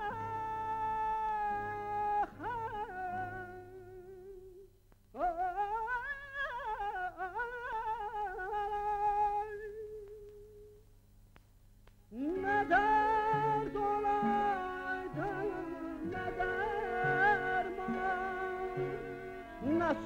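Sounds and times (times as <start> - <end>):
man singing with vibrato: 0.0 - 10.8, 12.1 - 20.0.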